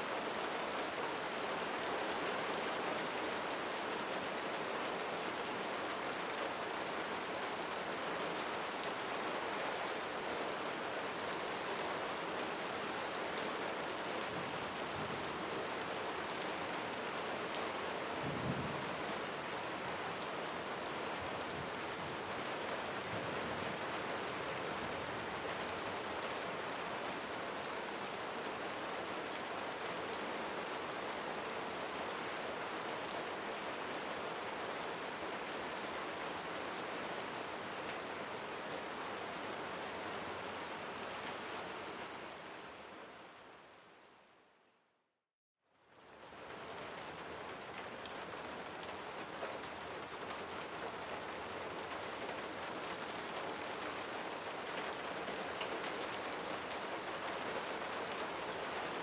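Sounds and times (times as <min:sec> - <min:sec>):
steady rain with ticking drops: 0:00.0 - 0:44.9, 0:45.7 - 0:59.0.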